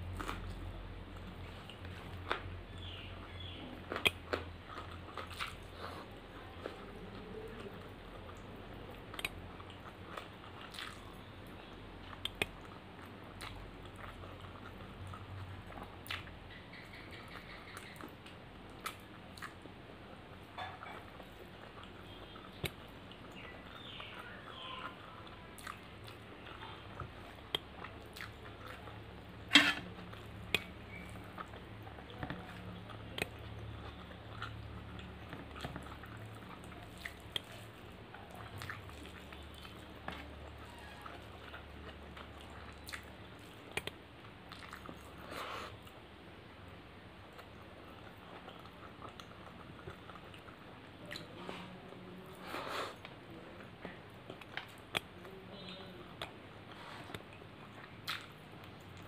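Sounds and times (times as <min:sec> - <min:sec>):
person chewing: 0:00.0 - 0:46.0, 0:47.3 - 0:59.0
low steady hum: 0:00.0 - 0:59.0.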